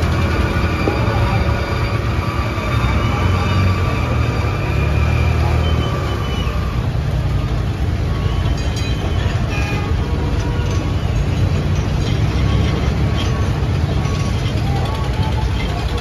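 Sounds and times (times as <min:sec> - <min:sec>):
tram low hum: 0:00.0 - 0:16.0.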